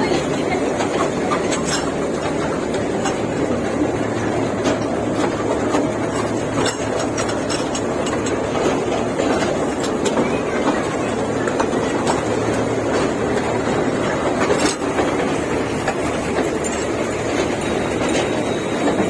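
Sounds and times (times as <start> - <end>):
toy train rumbling on track: 0.0 - 19.0.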